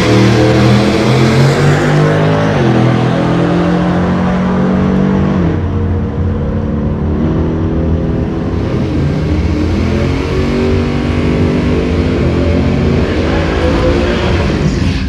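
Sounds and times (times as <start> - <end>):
cars accelerating at full throttle: 0.0 - 15.0.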